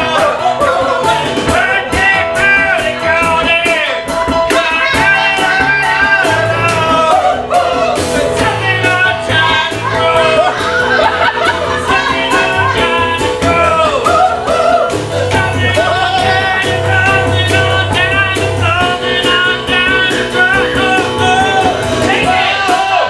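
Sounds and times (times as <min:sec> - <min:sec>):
person singing: 0:00.0 - 0:23.0
rock and roll keyboard music: 0:00.0 - 0:23.0.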